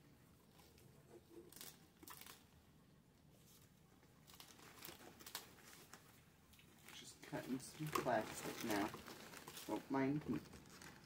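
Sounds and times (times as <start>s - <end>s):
packing paper crinkling: 0.5s - 2.5s, 3.5s - 11.0s.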